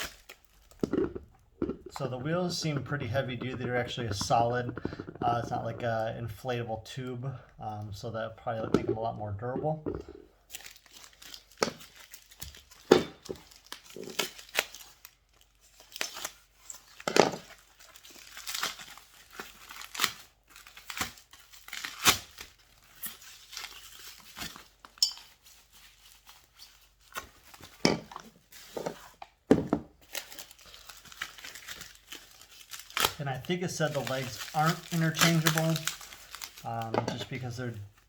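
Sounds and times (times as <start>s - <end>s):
packaging crinkling and tearing: 0.0s - 5.7s, 10.4s - 29.4s, 30.0s - 38.0s.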